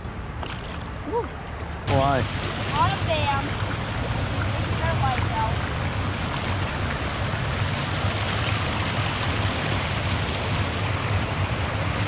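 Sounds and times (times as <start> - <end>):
creek water flowing: 0.4 - 12.0.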